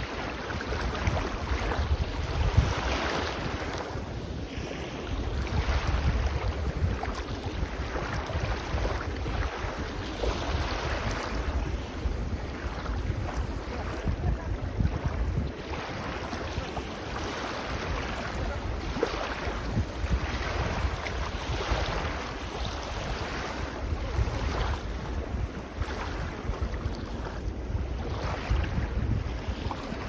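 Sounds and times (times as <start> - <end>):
small sea waves washing: 0.0 - 30.0
wind buffeting microphone: 0.0 - 30.0.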